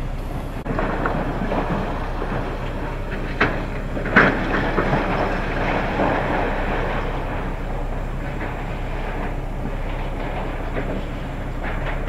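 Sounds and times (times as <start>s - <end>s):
rolling rumble: 0.0s - 12.0s.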